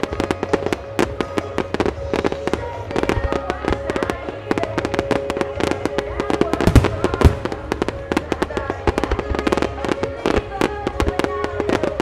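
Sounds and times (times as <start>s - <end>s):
fireworks bursts and crackling: 0.0s - 12.0s
music: 0.0s - 12.0s.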